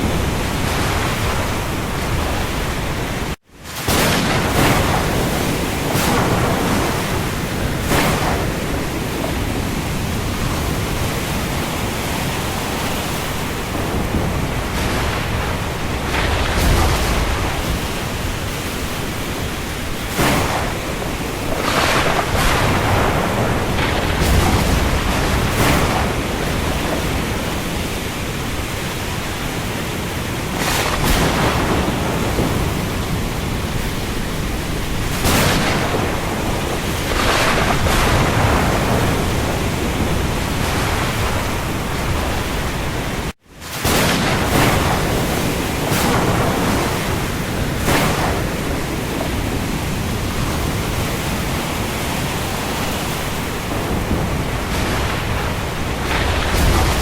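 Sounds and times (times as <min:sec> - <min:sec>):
rain over sea: 0:00.0 - 0:57.0
waves surging and washing: 0:00.0 - 0:57.0.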